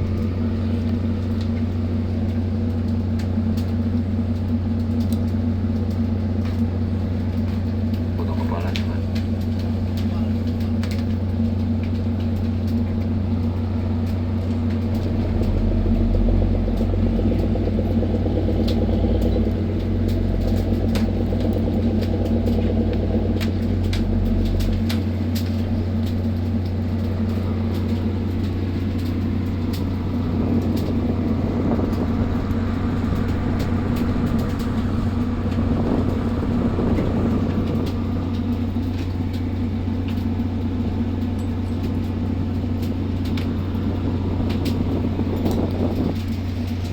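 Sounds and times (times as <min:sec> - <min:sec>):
light clicks and rattles: 0:00.0 - 0:46.9
ship engine droning: 0:00.0 - 0:46.9.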